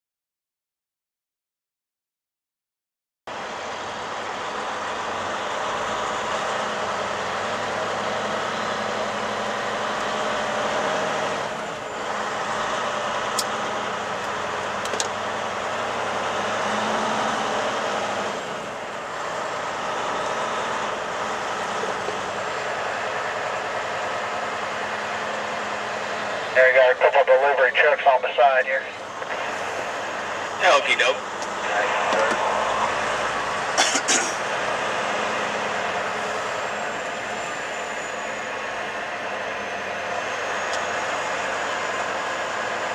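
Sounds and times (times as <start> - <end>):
road and tyre noise: 3.3 - 42.9
truck engine drone: 3.3 - 42.9.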